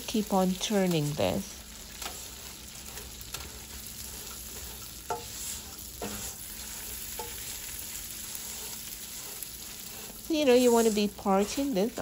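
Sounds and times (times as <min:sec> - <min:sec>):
noodles sizzling in butter: 0:00.0 - 0:12.0
spatula scraping pan: 0:00.7 - 0:12.0.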